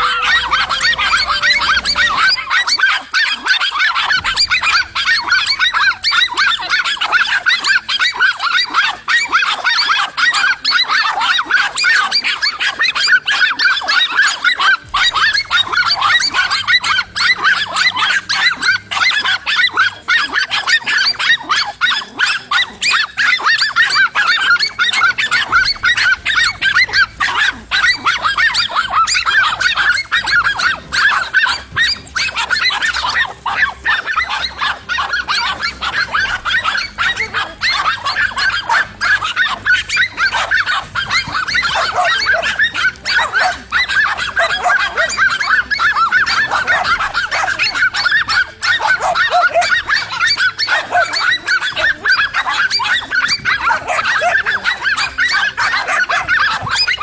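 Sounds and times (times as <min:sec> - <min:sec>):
dogs barking and yelping: 0:00.0 - 0:57.0.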